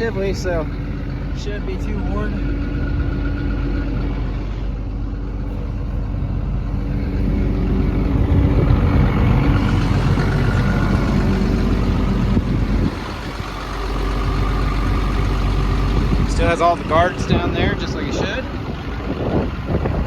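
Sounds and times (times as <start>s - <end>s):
excavator diesel idling: 0.0s - 20.0s.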